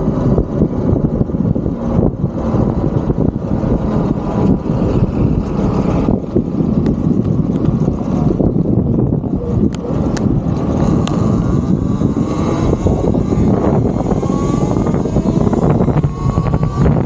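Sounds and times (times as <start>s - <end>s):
dirt bike road noise: 0.0s - 17.0s
wind over microphone: 0.0s - 17.0s.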